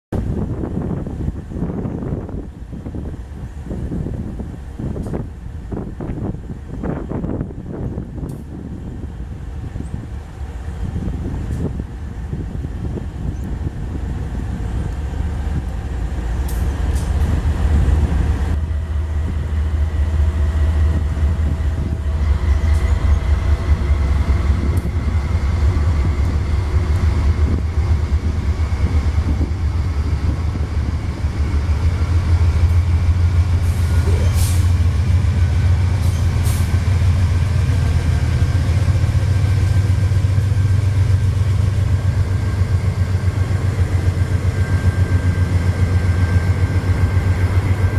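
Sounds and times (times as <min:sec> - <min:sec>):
diesel locomotive engines rumbling: 0:00.1 - 0:47.9.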